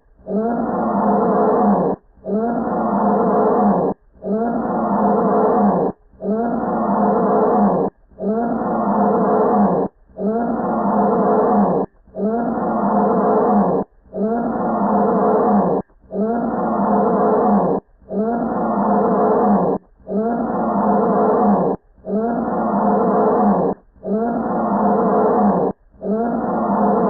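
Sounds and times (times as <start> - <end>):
bear calling: 0.3 - 27.0.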